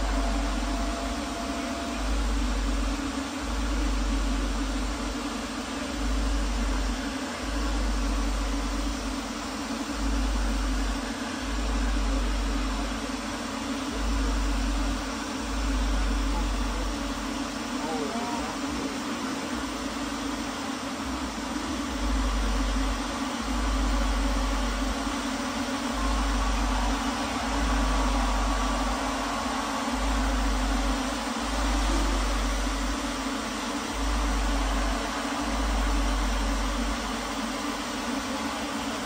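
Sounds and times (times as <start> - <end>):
swarm of drones humming: 0.0 - 39.0.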